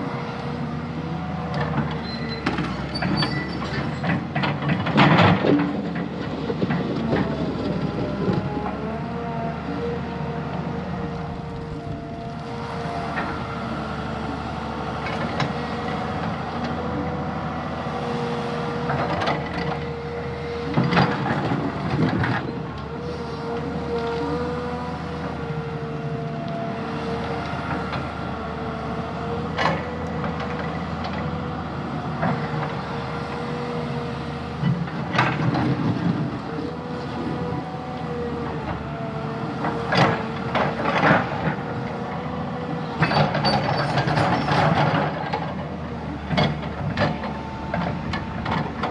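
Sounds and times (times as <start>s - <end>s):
constant machine whine: 0.0s - 48.9s
heavy machinery diesel engine: 0.0s - 48.9s.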